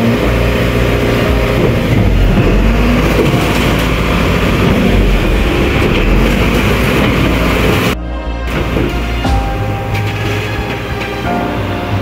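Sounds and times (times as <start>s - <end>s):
garbage truck rumbling: 0.0s - 12.0s.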